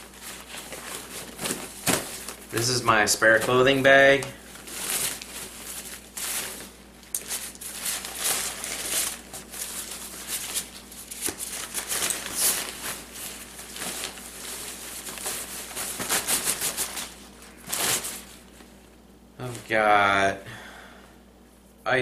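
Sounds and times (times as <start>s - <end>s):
fabric sack rustling: 0.0s - 18.7s.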